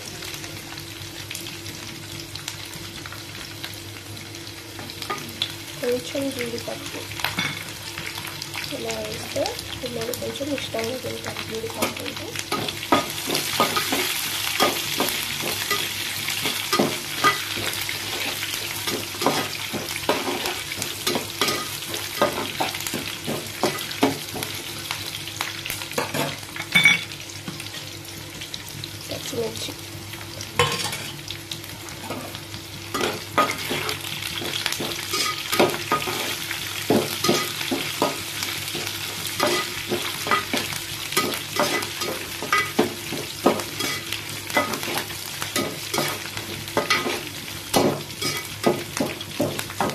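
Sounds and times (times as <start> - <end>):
food sizzling in oil: 0.0 - 49.9.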